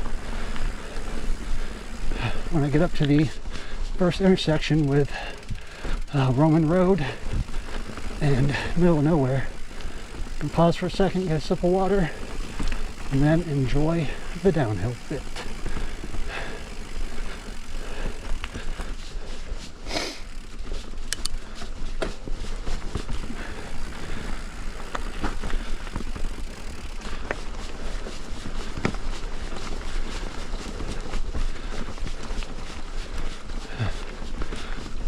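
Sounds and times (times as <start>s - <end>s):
bike clicks and rattles: 0.0s - 35.0s
bike tyres rolling on dirt: 0.0s - 35.0s.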